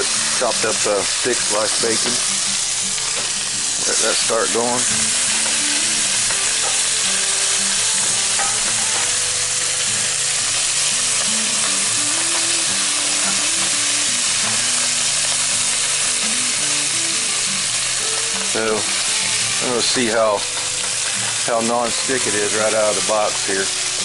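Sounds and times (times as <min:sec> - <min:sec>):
bacon sizzling in a skillet: 0:00.0 - 0:24.0.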